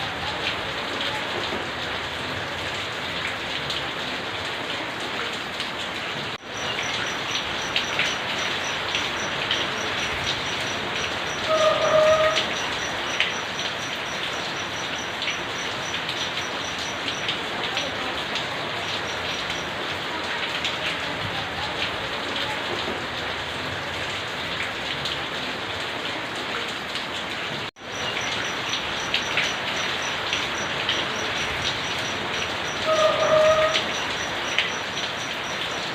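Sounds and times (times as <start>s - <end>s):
close raindrops striking: 0.0s - 35.9s
rain pattering on surfaces: 0.0s - 35.9s.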